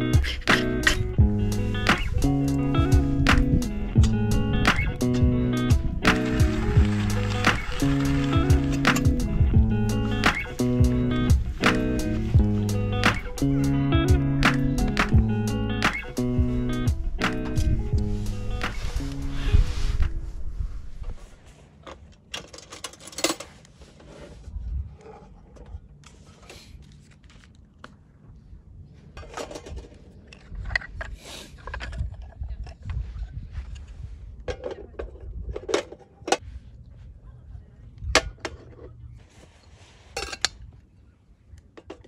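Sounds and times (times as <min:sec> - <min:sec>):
wind rumble on microphone: 0:00.0 - 0:15.6, 0:16.2 - 0:21.4, 0:24.4 - 0:25.9, 0:28.1 - 0:39.4.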